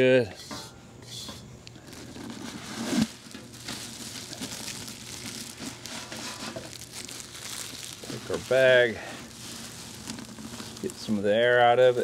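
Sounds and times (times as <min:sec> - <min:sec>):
plastic bag crinkling: 0:01.6 - 0:12.0.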